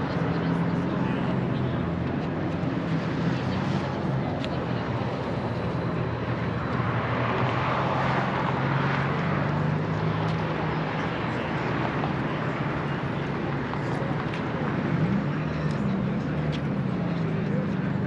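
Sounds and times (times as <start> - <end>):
engines humming: 0.0 - 18.0.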